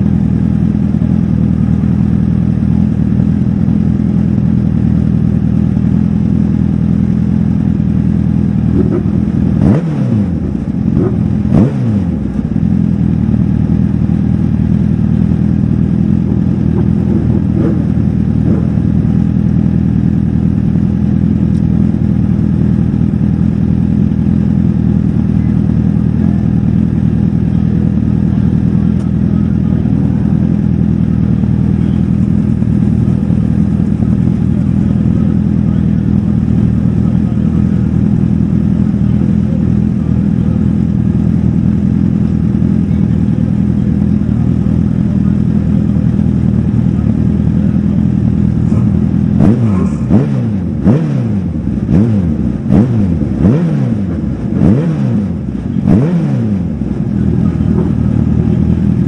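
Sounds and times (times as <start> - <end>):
engine throttle blips: 0.0 - 59.0
race car engine idling: 0.0 - 59.0.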